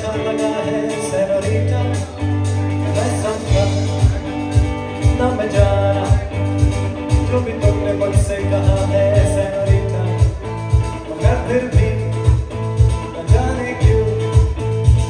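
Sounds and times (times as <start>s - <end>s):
electric guitar: 0.0s - 15.0s
man singing into a microphone: 0.0s - 15.0s
steady drum beat: 0.0s - 15.0s.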